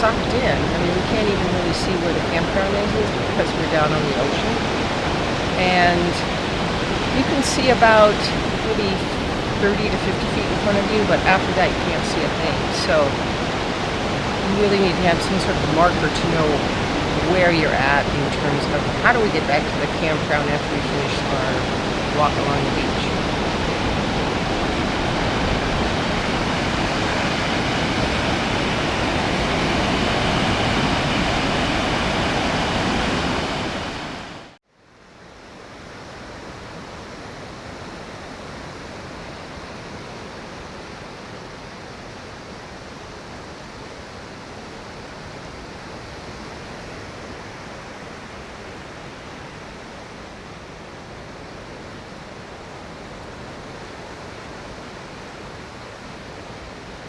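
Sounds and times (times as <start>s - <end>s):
surf and wind at shoreline: 0.0s - 57.0s.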